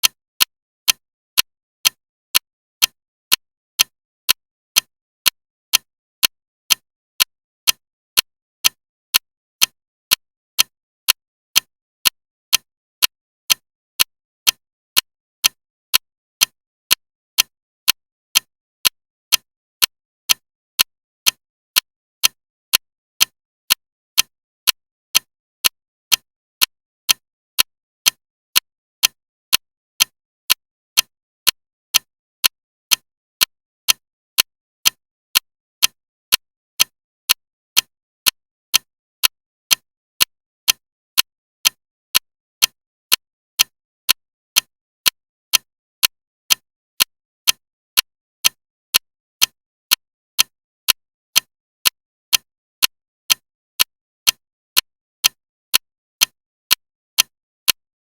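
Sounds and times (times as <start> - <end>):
clock ticking: 0.0 - 57.8.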